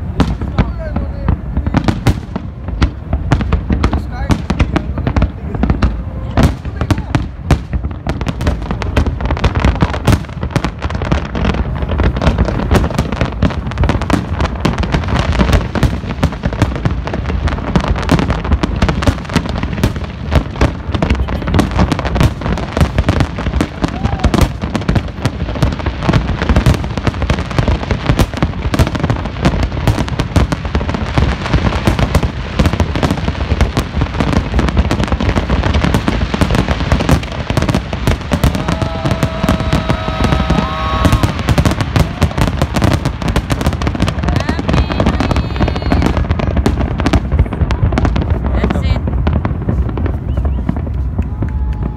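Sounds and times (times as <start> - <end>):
fireworks bursting: 0.0 - 51.9.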